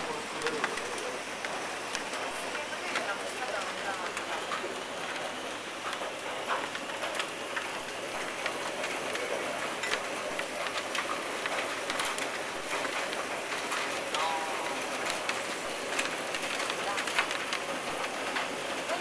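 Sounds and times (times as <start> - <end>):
hail and rain on paving: 0.0 - 19.0
sharp ticks of hailstones: 0.0 - 19.0.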